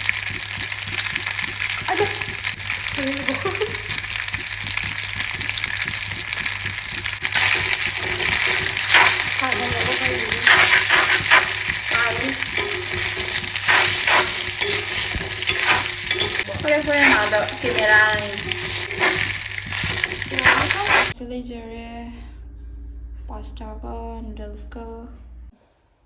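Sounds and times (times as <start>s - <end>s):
food sizzling in a hot pan: 0.0s - 21.2s.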